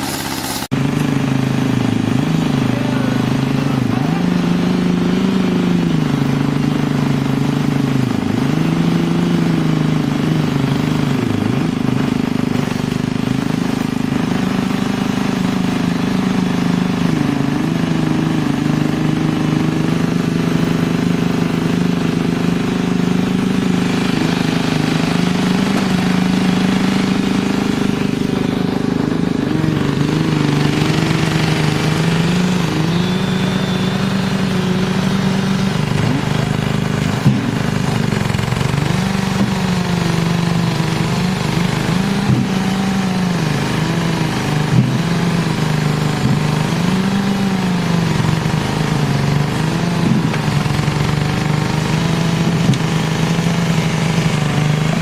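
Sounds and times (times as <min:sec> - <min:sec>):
machine engine at high revs: 0:00.0 - 0:55.0.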